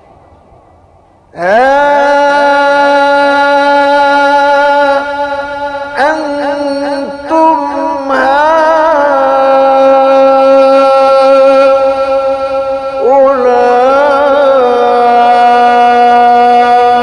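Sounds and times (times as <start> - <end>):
man reciting in melodic chant: 1.4 - 17.0.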